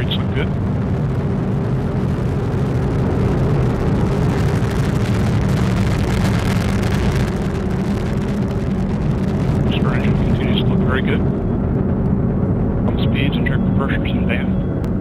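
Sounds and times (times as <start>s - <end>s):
rocket engine rumbling: 0.0s - 15.0s.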